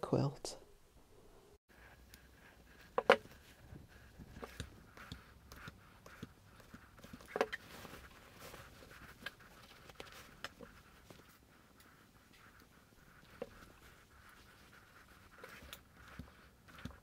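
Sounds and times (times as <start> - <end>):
fabric rustling and scraping: 1.8 - 17.0.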